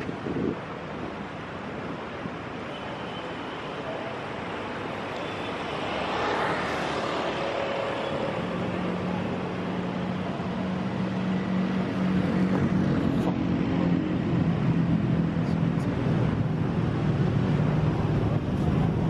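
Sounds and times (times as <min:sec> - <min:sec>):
car engines humming: 0:00.0 - 0:19.0.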